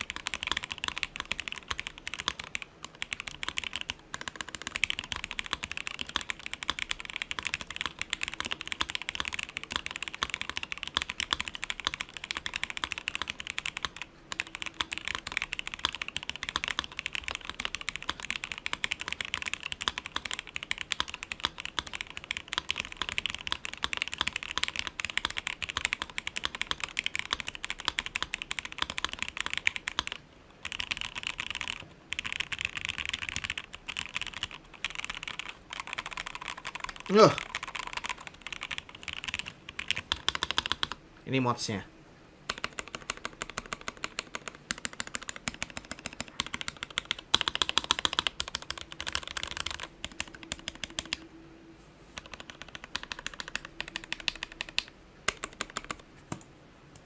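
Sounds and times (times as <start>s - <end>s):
fast typing on mechanical keyboard: 0.0s - 41.0s, 42.5s - 51.3s, 52.2s - 56.4s.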